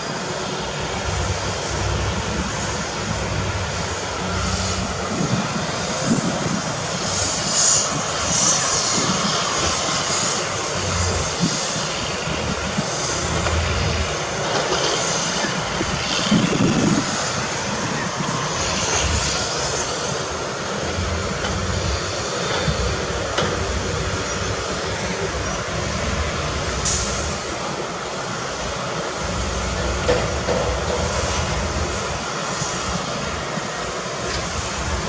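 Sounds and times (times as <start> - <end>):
constant rushing noise: 0.0 - 35.0
diesel engines of heavy machinery: 0.0 - 35.0.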